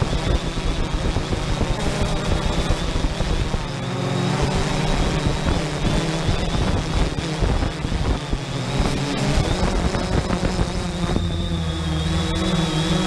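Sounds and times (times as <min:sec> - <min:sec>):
wind buffeting microphone: 0:00.0 - 0:03.8, 0:04.8 - 0:13.0
drone propellers humming: 0:00.0 - 0:13.0.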